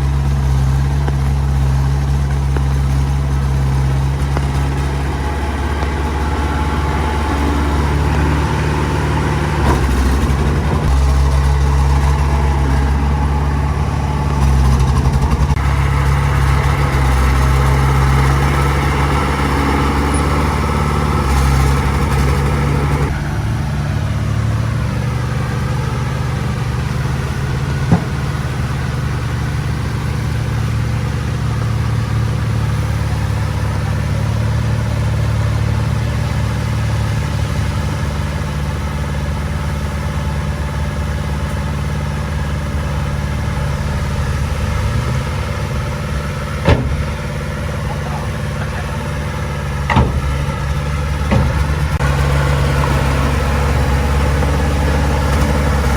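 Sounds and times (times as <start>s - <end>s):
heavy machinery diesel engine: 0.0s - 55.9s.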